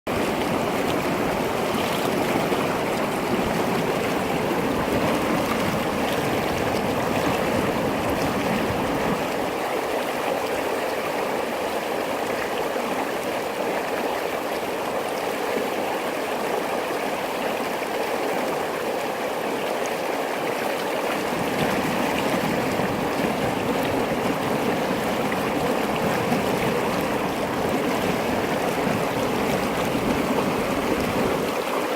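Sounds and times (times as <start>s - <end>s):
stream rushing over rocks: 0.1s - 31.9s.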